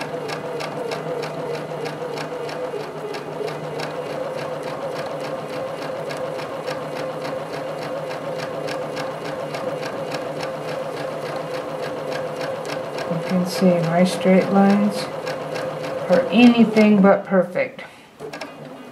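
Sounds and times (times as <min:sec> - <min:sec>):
sewing machine stitching: 0:00.0 - 0:17.2, 0:18.2 - 0:18.9.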